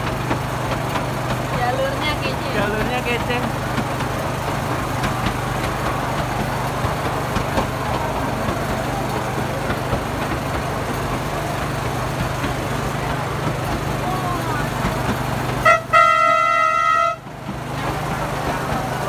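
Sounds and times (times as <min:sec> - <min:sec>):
ride train engine hum: 0:00.0 - 0:19.0.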